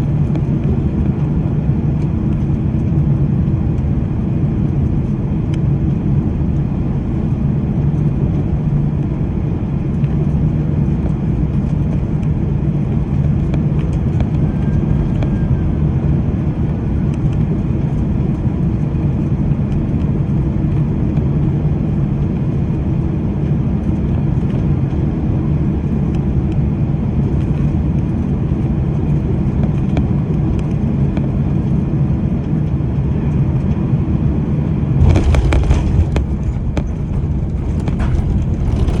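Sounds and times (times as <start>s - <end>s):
airplane cabin engine noise: 0.0s - 39.0s.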